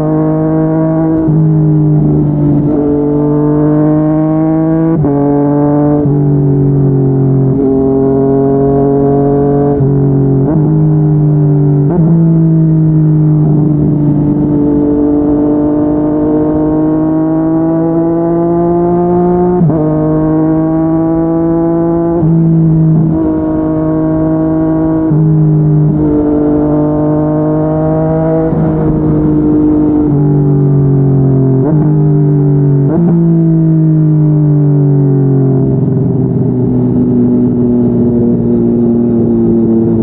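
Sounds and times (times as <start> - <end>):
motorcycle engine accelerating hard: 0.0 - 40.0.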